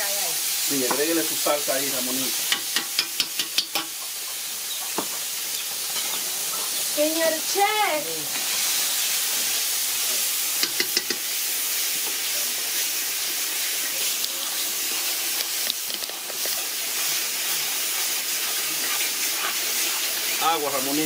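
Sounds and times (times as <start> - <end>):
beans sizzling in oil: 0.0 - 21.0.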